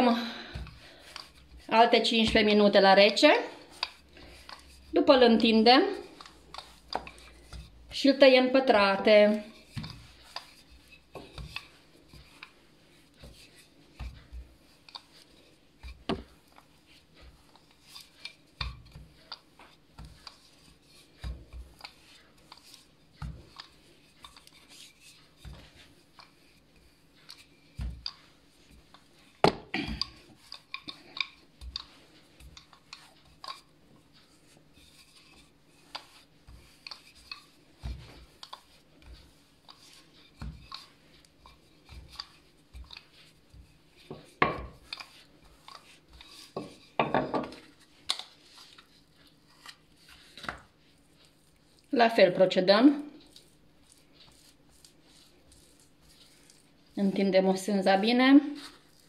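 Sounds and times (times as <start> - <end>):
rolling pin rubbing: 0.0 - 52.4, 53.1 - 59.0.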